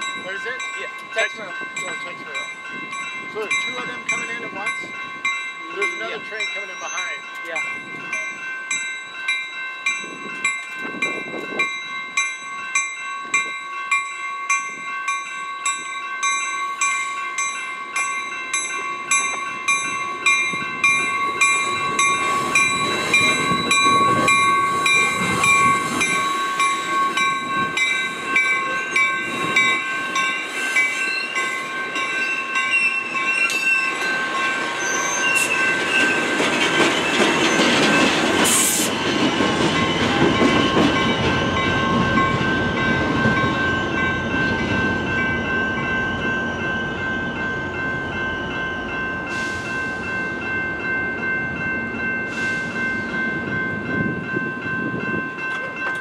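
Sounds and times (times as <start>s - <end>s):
railroad crossing bell: 0.0s - 56.0s
train rumble and clatter: 0.0s - 56.0s.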